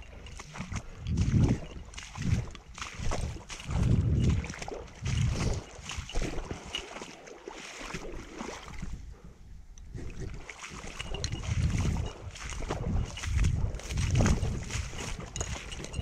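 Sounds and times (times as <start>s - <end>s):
wading splashes in floodwater: 0.0s - 9.2s, 9.9s - 16.0s.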